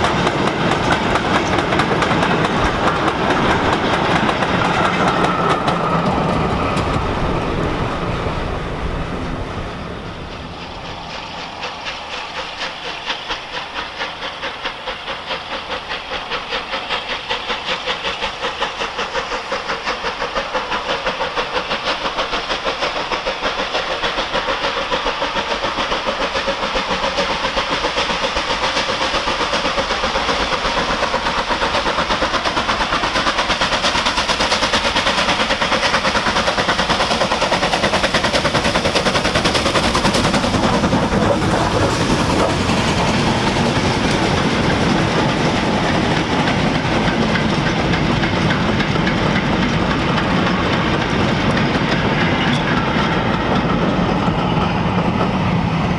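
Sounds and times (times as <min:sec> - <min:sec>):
steam locomotive exhaust beat: 0:00.0 - 0:55.9.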